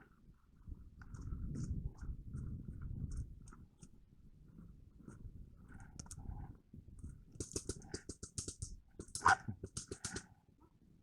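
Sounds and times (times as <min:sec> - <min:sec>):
muffled rumbling and rustling: 0:00.0 - 0:10.8.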